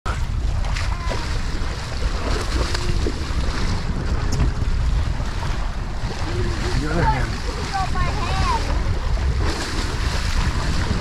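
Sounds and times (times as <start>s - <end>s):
sea water rushing and sloshing: 0.1s - 11.0s
wind buffeting microphone: 0.1s - 11.0s.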